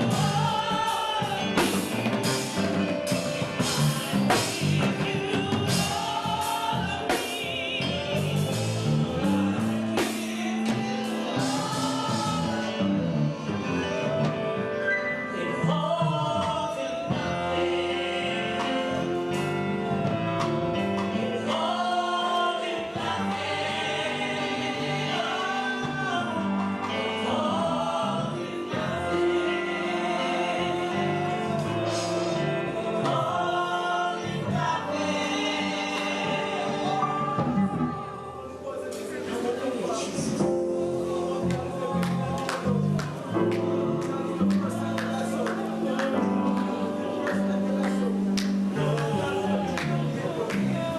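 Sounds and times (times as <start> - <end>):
instrumental backing: 0.0 - 50.9
voices singing gospel song: 0.0 - 50.9.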